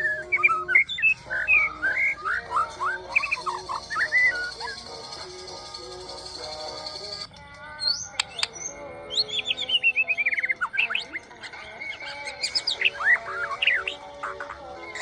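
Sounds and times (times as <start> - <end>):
bird singing whistled notes: 0.0 - 5.2, 7.8 - 15.0.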